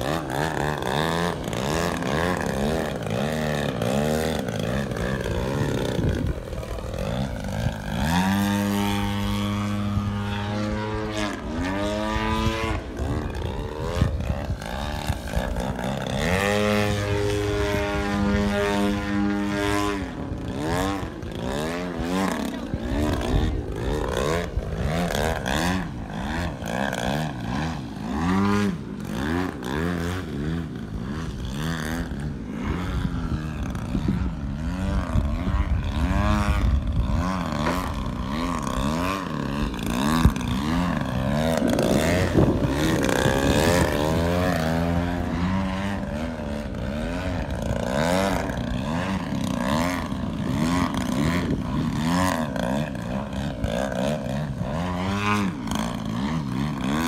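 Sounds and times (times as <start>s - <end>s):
model plane engine whining: 0.0s - 57.0s.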